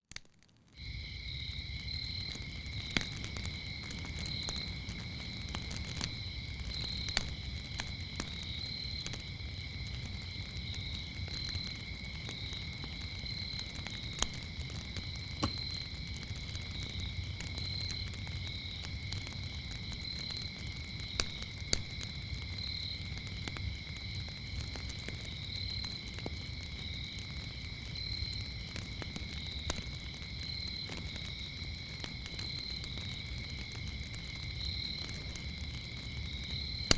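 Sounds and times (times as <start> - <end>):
wood fire crackling and popping: 0.1 - 36.9
crickets chirring: 0.8 - 36.9
pulsing insect chirp: 0.8 - 36.9.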